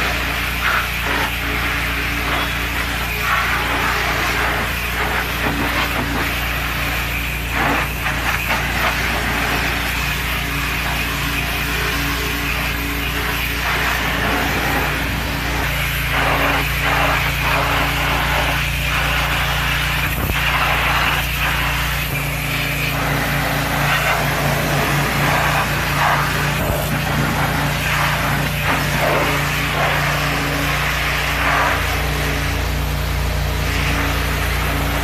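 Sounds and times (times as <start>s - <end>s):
car-cleaning machine motor hum: 0.0s - 35.0s.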